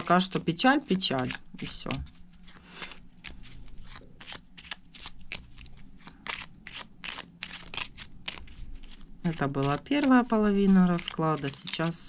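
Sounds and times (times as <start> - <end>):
playing cards flicking: 0.9 - 12.0.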